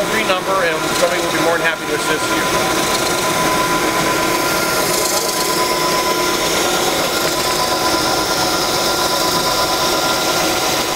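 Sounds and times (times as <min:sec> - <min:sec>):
floor grinder whirring: 0:00.0 - 0:10.9.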